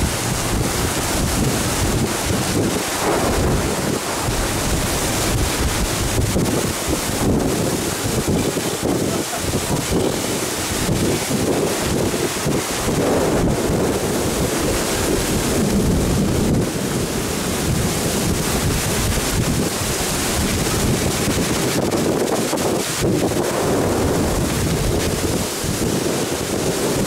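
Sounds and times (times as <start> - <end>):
heavy rain: 0.0 - 27.0
wind buffeting microphone: 0.0 - 27.0.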